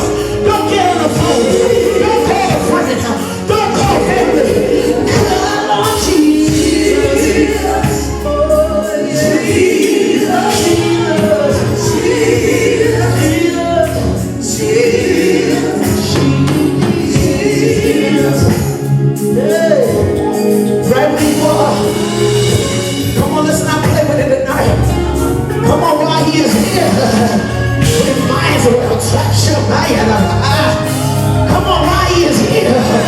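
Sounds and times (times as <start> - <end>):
choir singing: 0.0 - 24.1, 25.0 - 33.0
band playing gospel music: 0.0 - 33.0.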